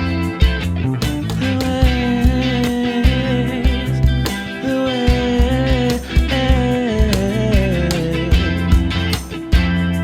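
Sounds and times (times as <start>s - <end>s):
live band playing: 0.0s - 10.0s.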